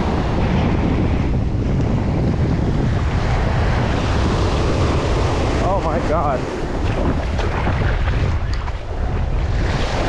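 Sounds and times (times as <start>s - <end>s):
ocean surf breaking: 0.0s - 10.0s
wind buffeting microphone: 0.0s - 10.0s.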